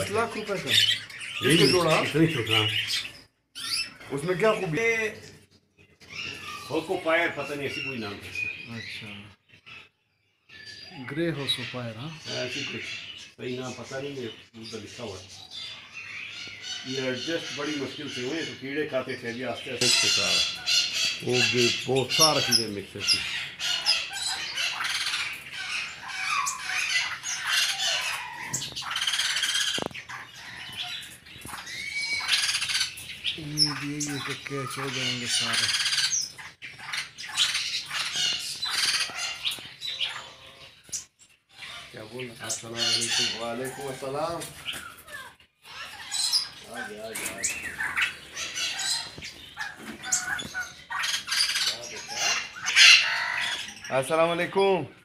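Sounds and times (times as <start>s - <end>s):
parrots squawking: 0.0s - 55.0s
small birds chirping: 0.0s - 55.0s.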